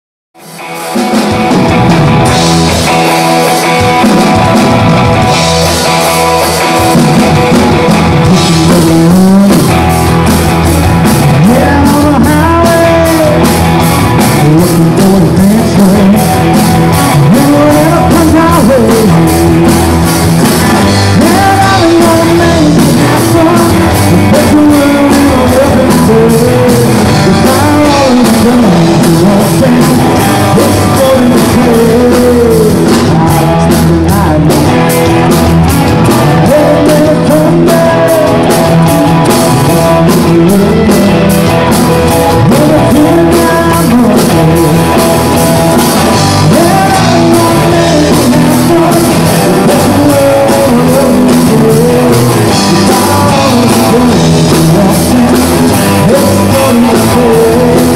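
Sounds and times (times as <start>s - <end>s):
rock band playing: 0.4s - 57.9s
person singing: 2.8s - 57.9s.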